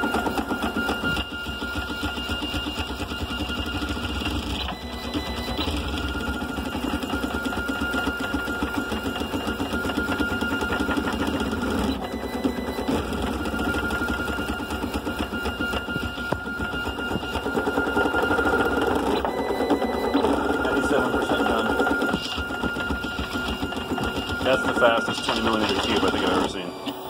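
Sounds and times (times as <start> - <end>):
steady high whine: 0.0 - 27.0
stepper motors buzzing and whining: 0.0 - 27.0.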